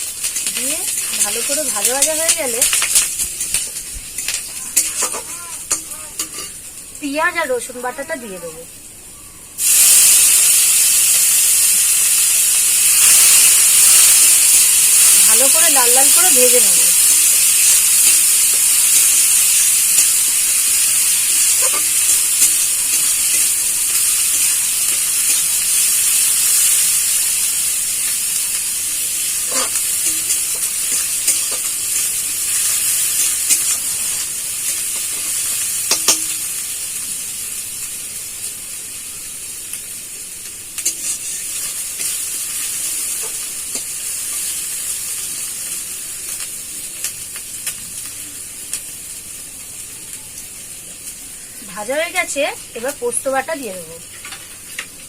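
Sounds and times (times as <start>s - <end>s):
paste sizzling in hot oil: 0.0s - 8.8s, 9.6s - 55.0s.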